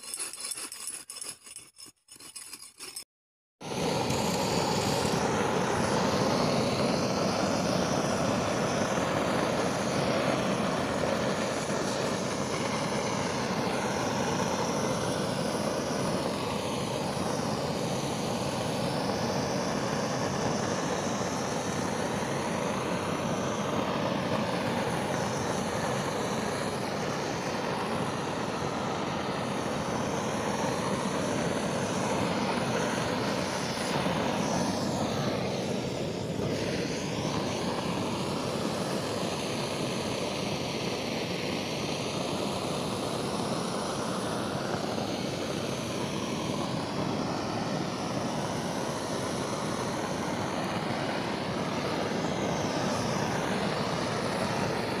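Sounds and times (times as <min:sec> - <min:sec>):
gas torch burning: 0:03.6 - 0:55.0.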